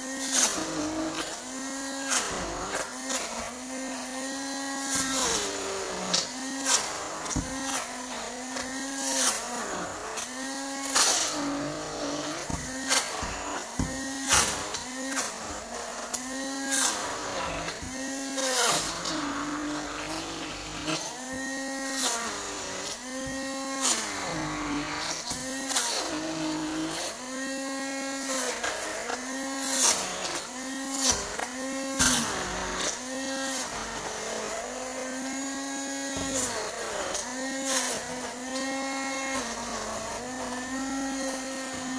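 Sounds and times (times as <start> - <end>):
electric mixer motor whining: 0.0 - 41.9.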